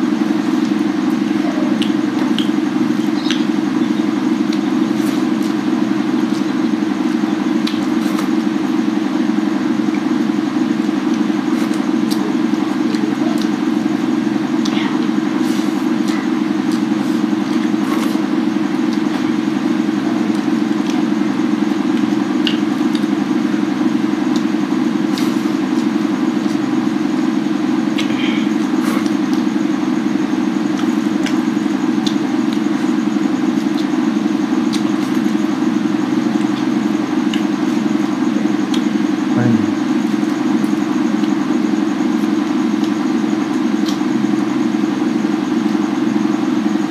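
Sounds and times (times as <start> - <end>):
mechanical hum with flutter: 0.0 - 46.9.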